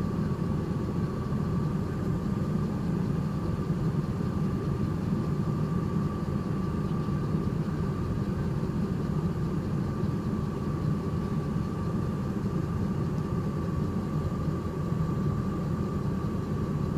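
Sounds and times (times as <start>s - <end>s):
low mechanical hum: 0.0s - 16.9s.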